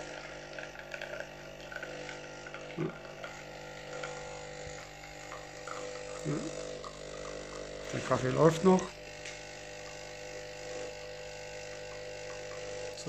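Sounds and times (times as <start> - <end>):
coffee flowing: 0.0 - 13.0
coffee machine pump humming: 0.0 - 13.0.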